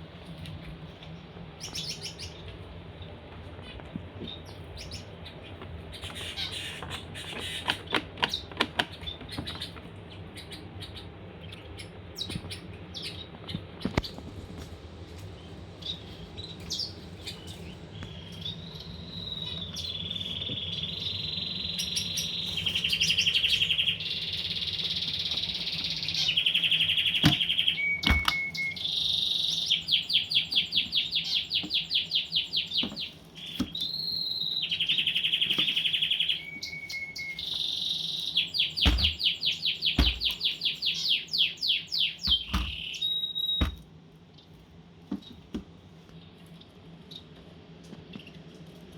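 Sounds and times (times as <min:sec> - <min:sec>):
finch singing warbles and trills: 0:00.6 - 0:14.5, 0:15.1 - 0:43.8.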